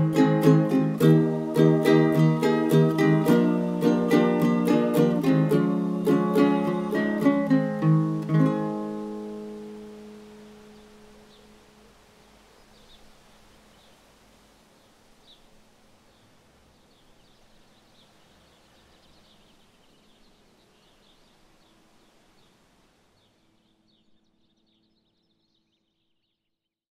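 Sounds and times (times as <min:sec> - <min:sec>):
soft hiss: 0:00.0 - 0:26.3.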